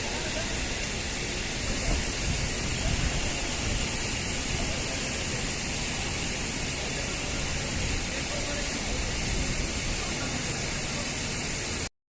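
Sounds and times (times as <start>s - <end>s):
water spraying under pressure: 0.0s - 11.9s.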